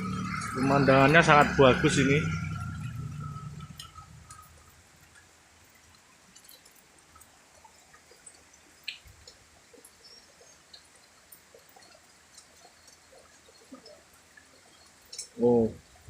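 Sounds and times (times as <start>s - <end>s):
rain hiss: 0.0s - 16.0s
water drips and ticks: 0.0s - 16.0s.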